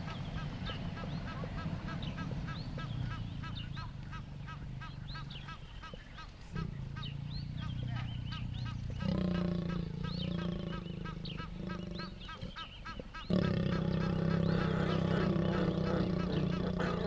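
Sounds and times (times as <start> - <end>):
birds honking calls: 0.0 - 17.0
low steady rumble: 0.0 - 17.0.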